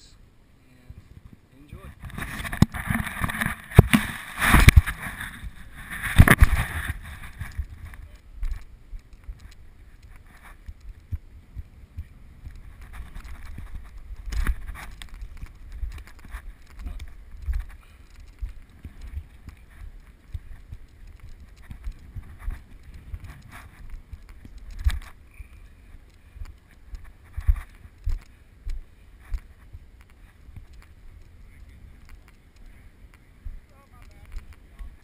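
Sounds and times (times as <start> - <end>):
muffled low rumble: 3.8 - 35.0.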